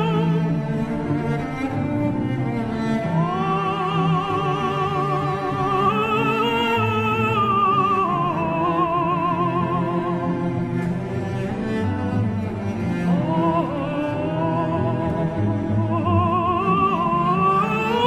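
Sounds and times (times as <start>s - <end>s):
low bowed strings: 0.0s - 18.0s.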